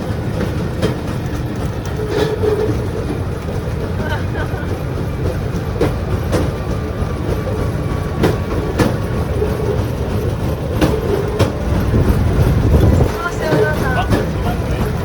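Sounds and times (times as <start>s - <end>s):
sharp clicks of wheels: 0.0s - 15.0s
steel wheels rolling on track: 0.0s - 15.0s.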